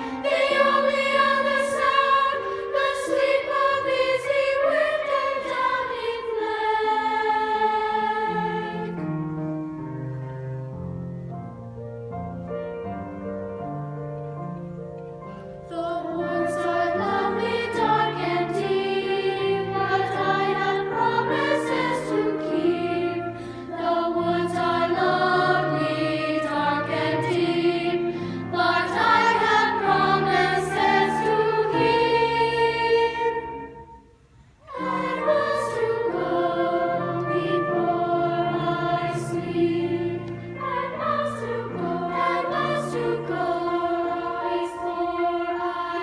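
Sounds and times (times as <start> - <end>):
choir singing: 0.0 - 9.8, 15.6 - 46.0.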